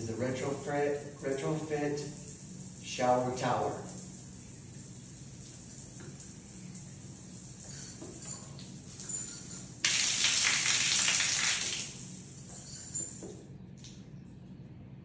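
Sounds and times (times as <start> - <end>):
shower water spraying: 0.0 - 13.2.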